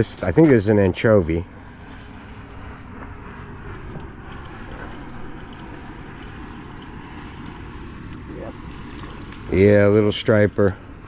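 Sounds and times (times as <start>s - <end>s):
distant engine drone: 0.0s - 11.0s.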